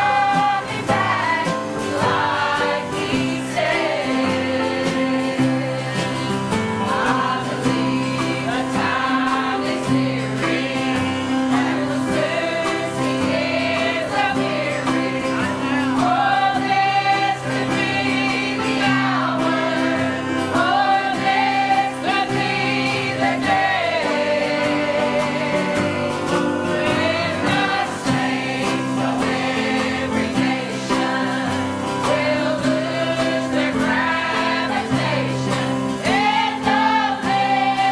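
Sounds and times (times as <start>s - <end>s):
choir singing gospel: 0.0s - 37.9s
instrumental accompaniment: 0.0s - 37.9s.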